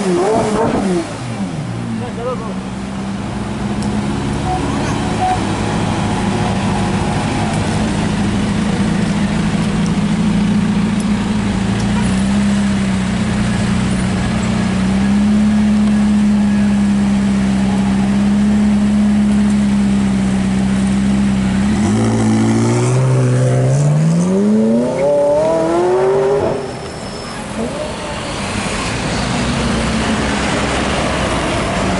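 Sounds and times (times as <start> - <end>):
car engine idling and accelerating: 0.0 - 31.9.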